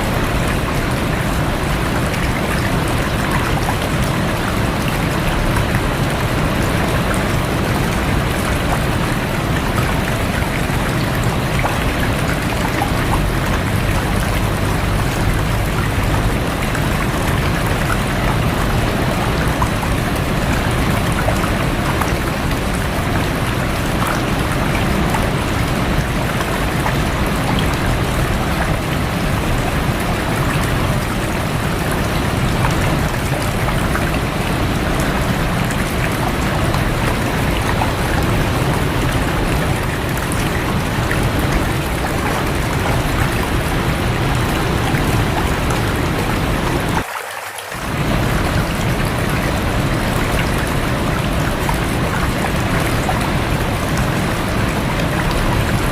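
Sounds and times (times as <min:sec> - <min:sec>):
raindrops pattering: 0:00.0 - 0:55.9
stream rushing: 0:00.0 - 0:55.9.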